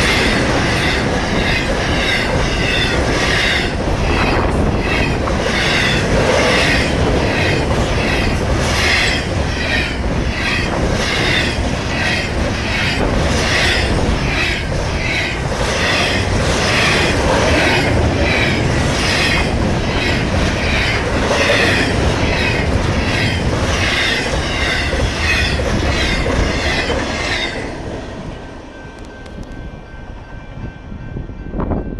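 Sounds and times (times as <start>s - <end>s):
train wheels clicking over rail joints: 0.0s - 29.9s.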